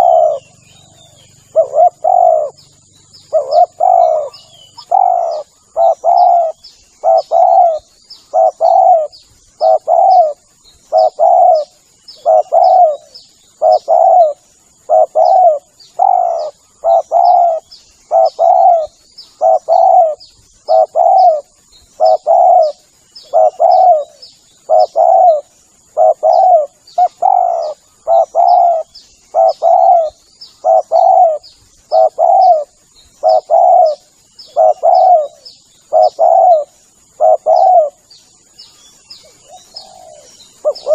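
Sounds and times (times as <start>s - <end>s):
dove cooing: 0.0s - 38.1s, 39.1s - 40.9s.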